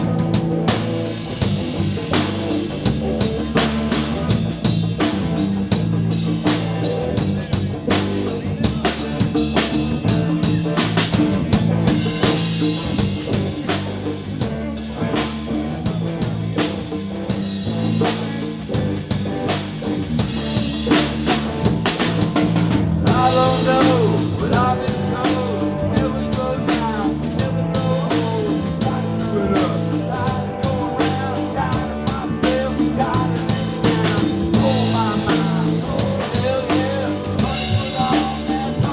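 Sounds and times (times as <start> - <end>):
bass line: 0.0 - 38.9
drum kit beat: 0.0 - 38.9.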